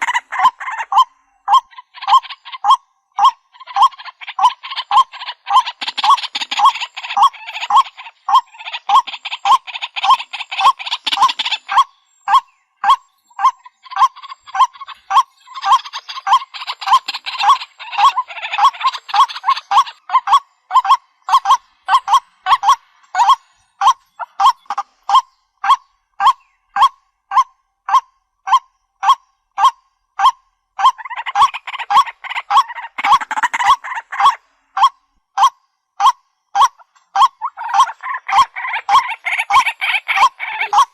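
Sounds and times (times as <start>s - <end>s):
harsh bird calls: 0.0s - 29.7s, 30.8s - 34.9s, 36.0s - 40.9s
bird calling: 0.0s - 40.9s.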